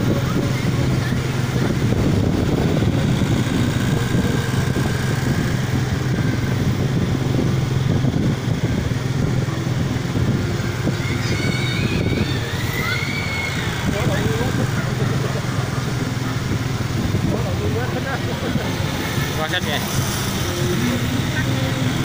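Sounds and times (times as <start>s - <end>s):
road rumble: 0.0s - 22.0s
vehicle engine hum: 0.0s - 22.0s.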